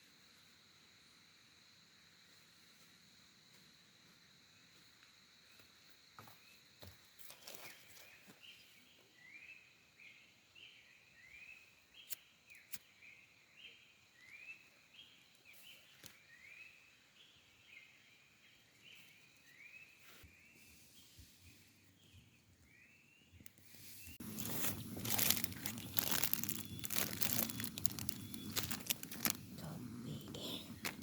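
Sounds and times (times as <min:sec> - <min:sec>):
faint high insect-like tone: 0:00.0 - 0:30.9.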